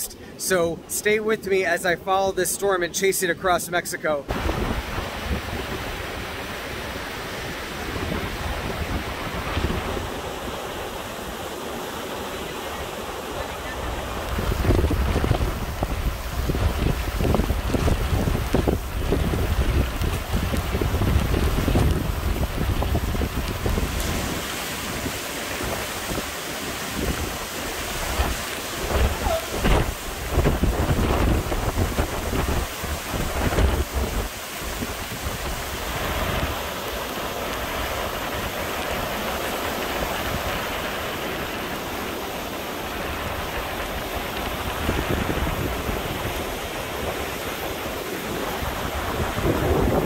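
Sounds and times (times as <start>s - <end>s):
gusty wind buffeting microphone: 4.3s - 50.0s
surf breaking: 4.3s - 50.0s.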